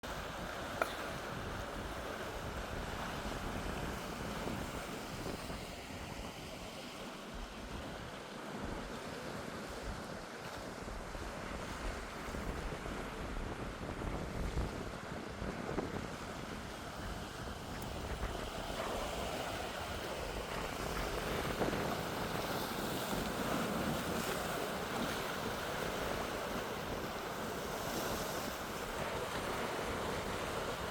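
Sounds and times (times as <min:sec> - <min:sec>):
surf washing against rocks: 0:00.0 - 0:30.9
wind buffeting microphone: 0:00.0 - 0:30.9.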